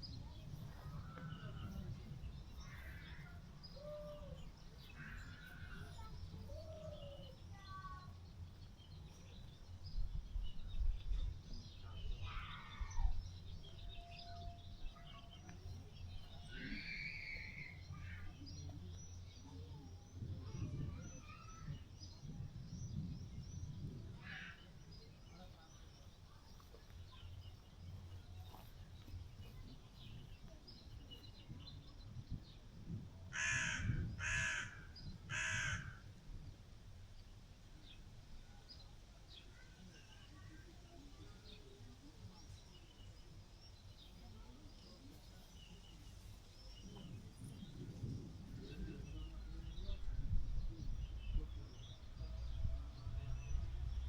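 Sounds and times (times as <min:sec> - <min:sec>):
wind rumble on microphone: 0:00.0 - 0:16.8, 0:17.7 - 0:37.3, 0:43.7 - 0:54.0.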